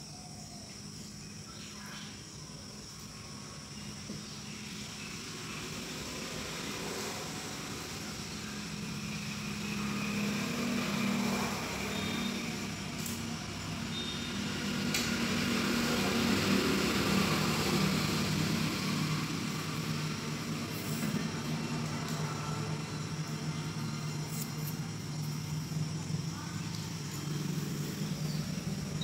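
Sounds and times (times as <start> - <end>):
even hiss: 0.0 - 29.0
low mechanical hum: 0.0 - 29.0.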